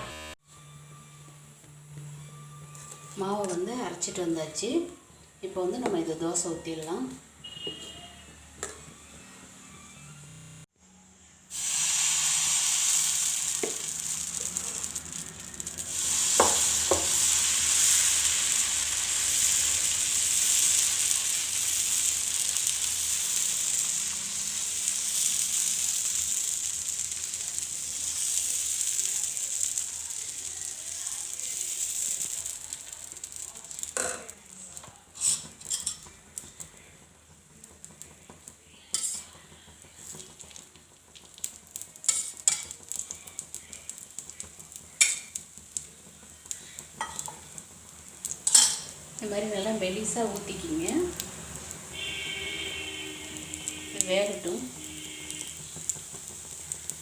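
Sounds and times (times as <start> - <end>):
hot pan sizzling: 0.0 - 0.4, 11.5 - 57.0.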